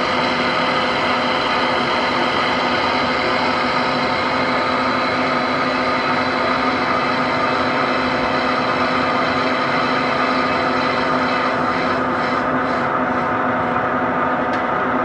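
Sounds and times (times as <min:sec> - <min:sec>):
metal lathe machine drone: 0:00.0 - 0:15.0.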